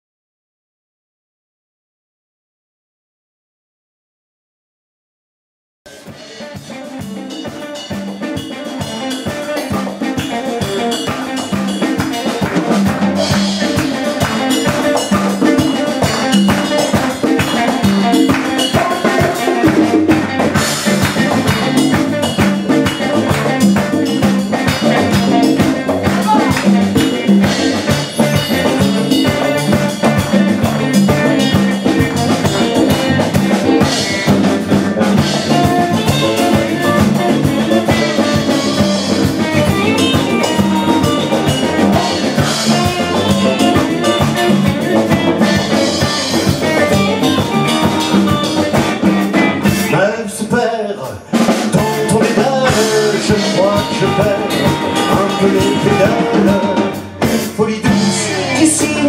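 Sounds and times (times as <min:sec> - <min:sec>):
drum kit: 0:05.9 - 0:59.0
electric guitar: 0:05.9 - 0:59.0.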